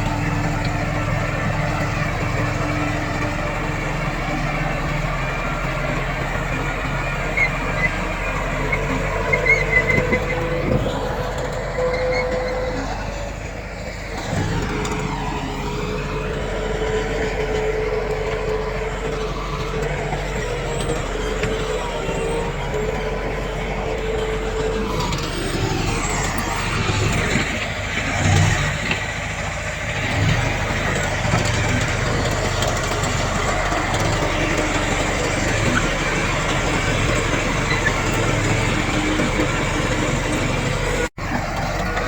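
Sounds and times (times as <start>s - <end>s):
diesel machinery engine rumbling: 0.0s - 42.0s.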